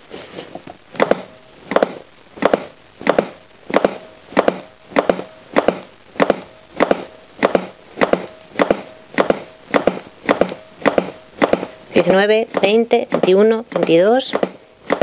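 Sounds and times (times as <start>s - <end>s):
manikin clicking under compressions: 0.4s - 15.0s.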